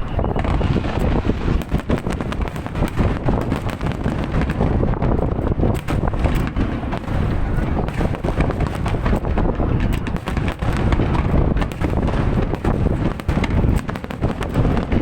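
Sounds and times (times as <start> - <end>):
heavy low rumble: 0.0 - 15.0
fireworks booms and cracks: 0.1 - 15.0.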